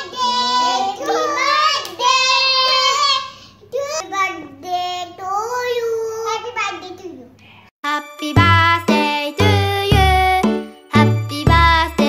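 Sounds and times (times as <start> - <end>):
child singing: 0.0 - 6.5, 7.8 - 12.0.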